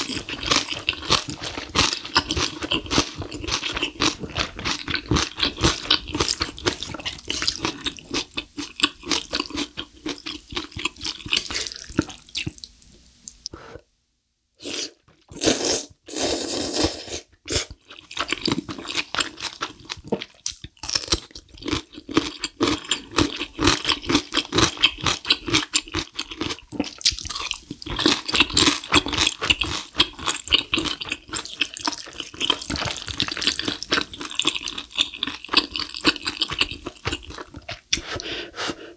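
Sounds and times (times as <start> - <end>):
slurping and chewing noodles: 0.0 - 12.8, 14.6 - 38.9.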